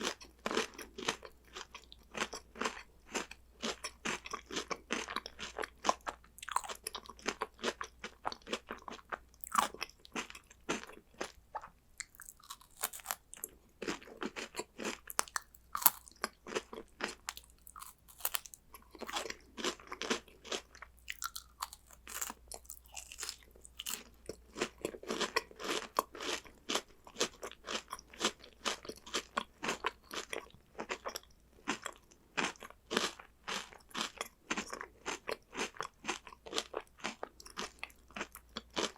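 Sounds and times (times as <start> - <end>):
crunching and chewing snacks: 0.0 - 38.9.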